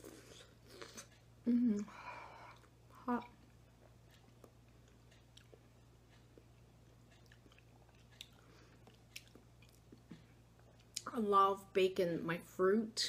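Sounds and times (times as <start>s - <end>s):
faint chewing: 0.0s - 11.1s
low steady hum: 0.0s - 13.0s.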